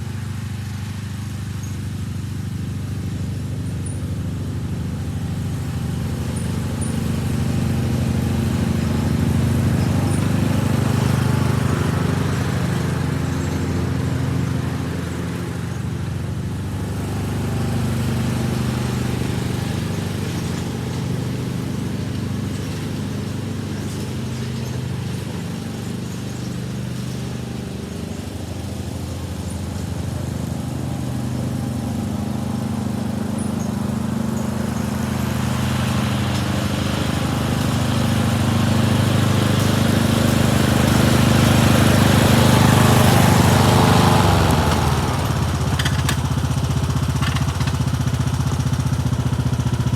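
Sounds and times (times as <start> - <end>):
riding lawn mower engine: 0.0 - 49.9.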